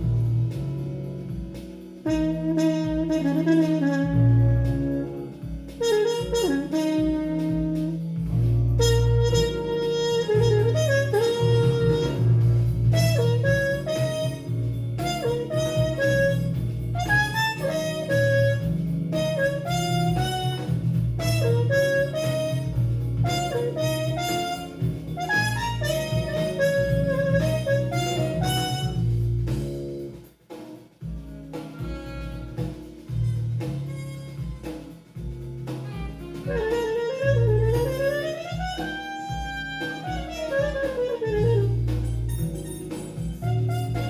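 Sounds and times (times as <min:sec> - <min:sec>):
electric bass line: 0:00.0 - 0:30.3, 0:31.0 - 0:44.0
jazz fusion band: 0:00.0 - 0:44.0.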